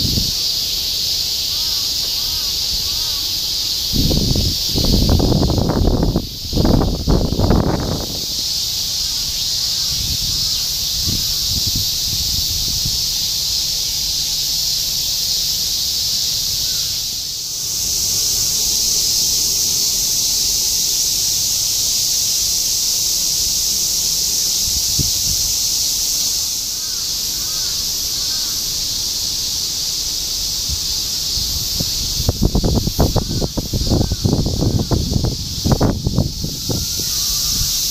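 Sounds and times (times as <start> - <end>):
cicadas buzzing: 0.0 - 37.9.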